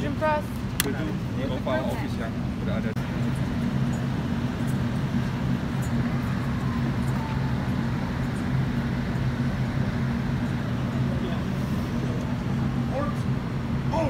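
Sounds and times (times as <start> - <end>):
engine humming at low speed: 0.0 - 14.0.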